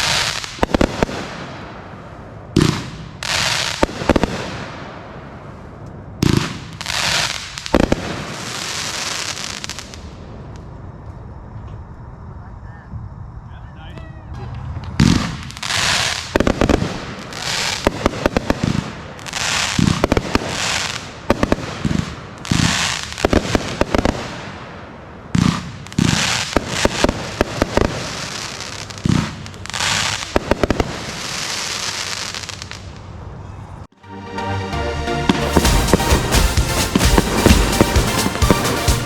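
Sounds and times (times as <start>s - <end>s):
hissing crackling firework breaks: 0.0s - 10.8s, 14.5s - 33.1s, 35.4s - 39.0s.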